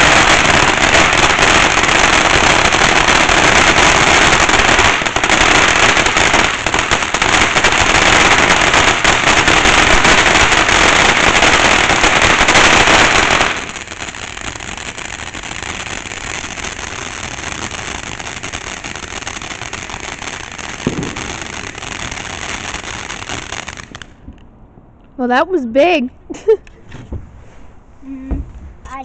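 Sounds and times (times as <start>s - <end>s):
fountain firework hissing crackle: 0.0s - 24.2s.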